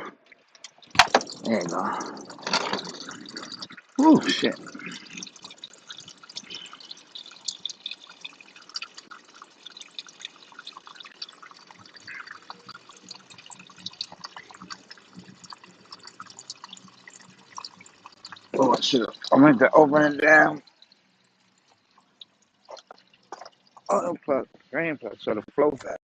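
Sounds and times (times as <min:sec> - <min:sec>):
oil dripping and splattering: 0:00.3 - 0:19.5, 0:20.4 - 0:24.7.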